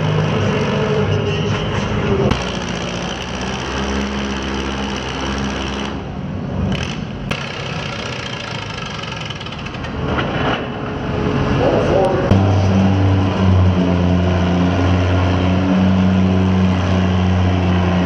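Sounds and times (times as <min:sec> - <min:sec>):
tractor engines running: 0:00.0 - 0:18.0.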